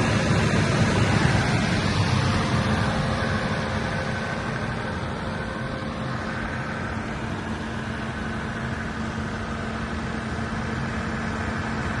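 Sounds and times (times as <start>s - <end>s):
diesel generator engine droning: 0.0s - 12.0s
faint steady whine: 0.0s - 12.0s.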